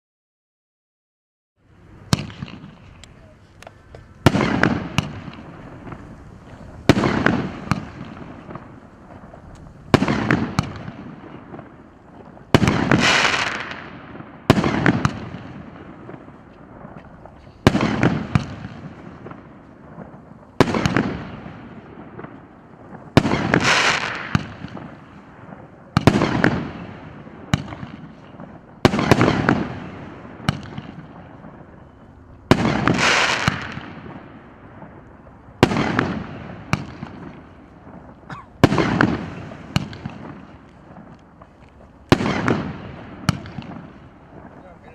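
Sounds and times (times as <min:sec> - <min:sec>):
firework battery bangs and crackling: 0:02.0 - 0:44.9.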